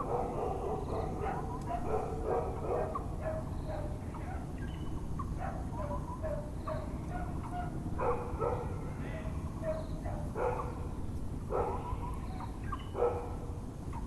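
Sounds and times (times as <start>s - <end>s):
dogs barking: 0.0s - 10.9s, 11.5s - 14.0s
low background rumble: 0.0s - 14.0s.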